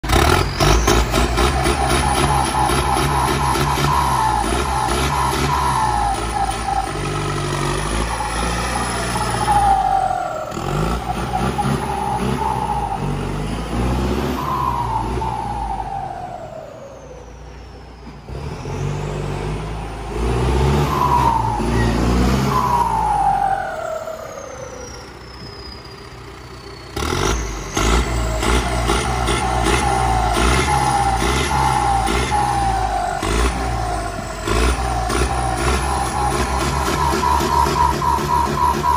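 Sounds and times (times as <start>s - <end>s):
diesel tractor engine revving: 0.0s - 38.9s
turbo whistle: 0.2s - 18.1s, 20.6s - 26.0s, 27.8s - 33.6s, 34.5s - 38.9s.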